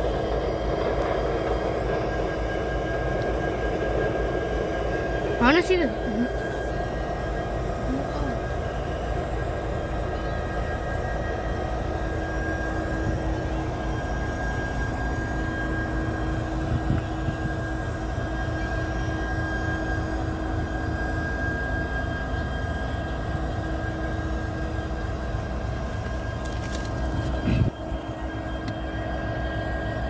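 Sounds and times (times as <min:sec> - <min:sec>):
high-pitched whine: 0:00.0 - 0:30.0
locomotive engine idling rumble: 0:00.0 - 0:30.0.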